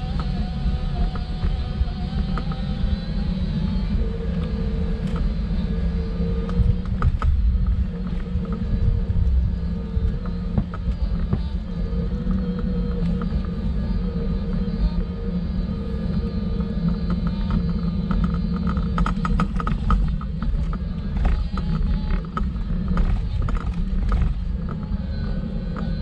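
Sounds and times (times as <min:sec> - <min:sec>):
wheels rumbling over paving: 0:00.0 - 0:26.0.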